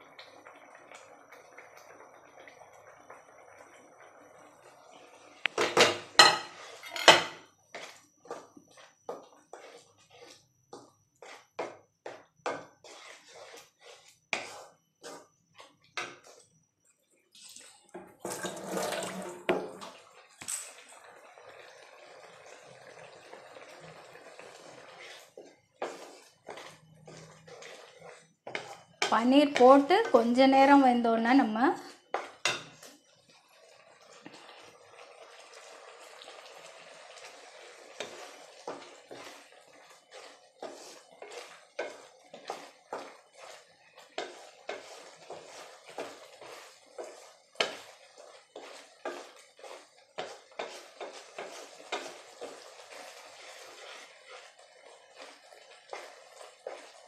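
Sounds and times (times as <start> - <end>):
spatula stirring wet mixture: 0.0 - 21.0, 21.7 - 57.0
food simmering in a pan: 0.0 - 57.0.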